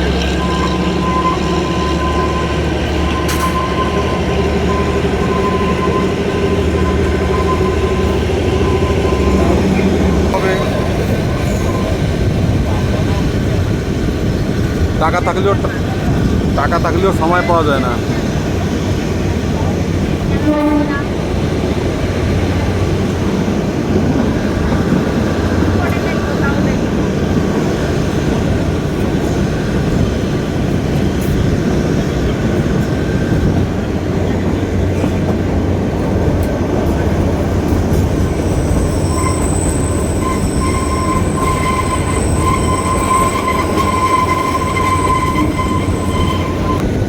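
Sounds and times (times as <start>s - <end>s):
train carriage rumbling: 0.0s - 47.0s.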